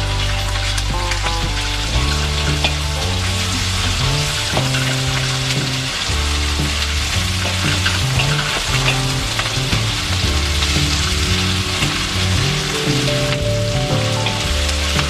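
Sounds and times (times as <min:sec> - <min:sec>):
background music with bass: 0:00.0 - 0:15.0.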